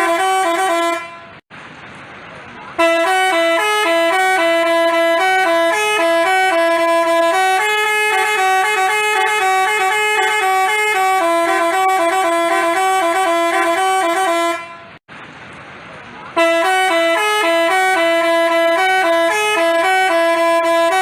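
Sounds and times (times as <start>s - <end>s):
multi-tone bus horn melody: 0.0s - 1.4s, 2.7s - 15.0s, 16.4s - 21.0s.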